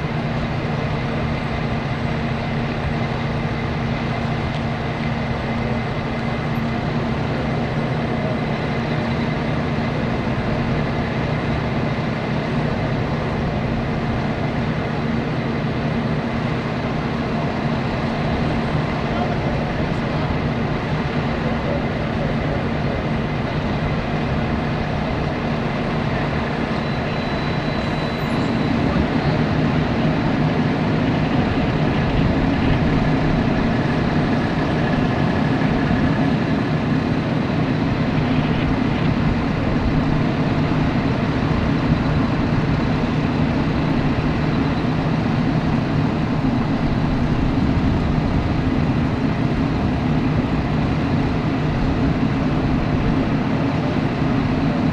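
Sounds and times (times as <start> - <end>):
large vehicle engine rumbling: 0.0 - 54.9.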